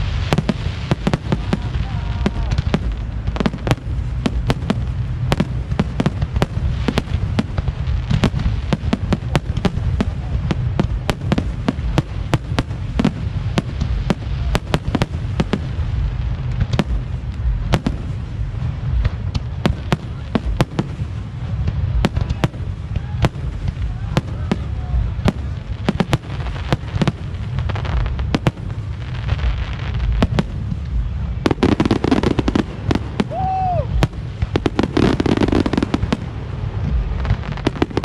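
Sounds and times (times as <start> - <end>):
fireworks bangs and crackles: 0.0 - 38.0
low rumble: 0.0 - 38.0.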